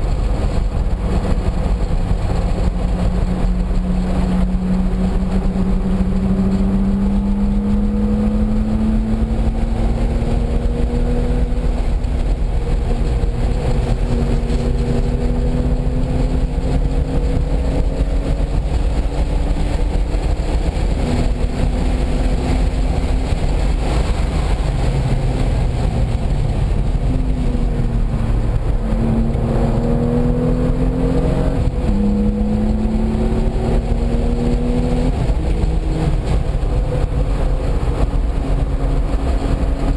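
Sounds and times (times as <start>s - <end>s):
car engine at full throttle: 0.0s - 39.9s
road and wind rumble: 0.0s - 39.9s.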